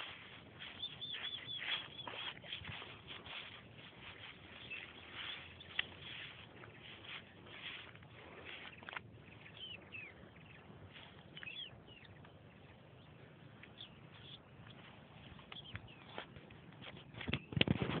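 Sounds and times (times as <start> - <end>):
steady low hiss: 0.0 - 17.2
small birds chirping: 0.0 - 17.8.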